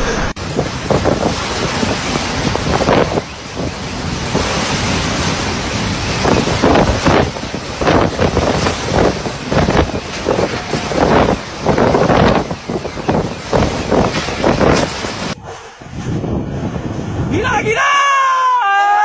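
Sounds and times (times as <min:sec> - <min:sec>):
wind buffeting microphone: 0:00.2 - 0:17.9.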